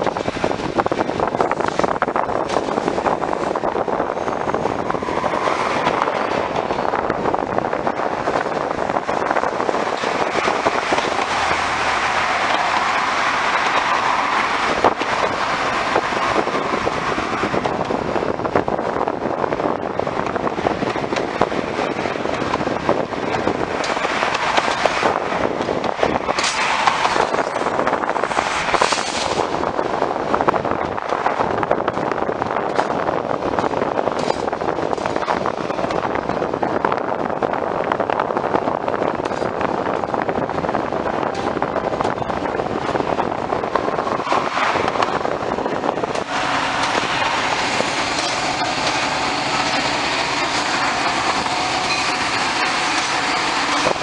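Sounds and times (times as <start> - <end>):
train wheels rumbling on track: 0.0 - 54.0
wheels clacking over rail joints: 0.0 - 54.0.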